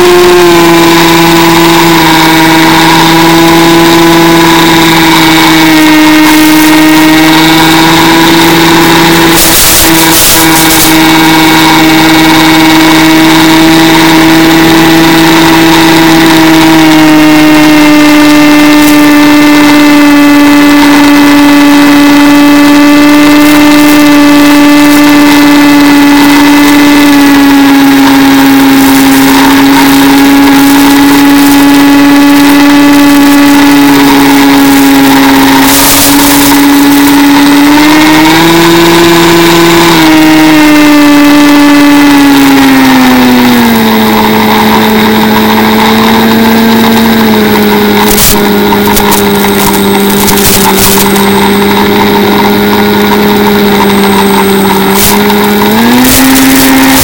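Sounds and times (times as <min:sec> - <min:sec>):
electric motor and propeller whining: 0:00.0 - 0:57.0.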